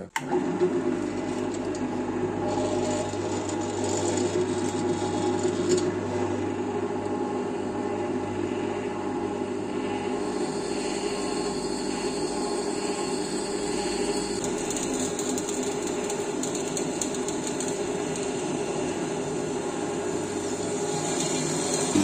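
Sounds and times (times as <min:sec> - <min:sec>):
drill press motor humming: 0:00.2 - 0:22.0.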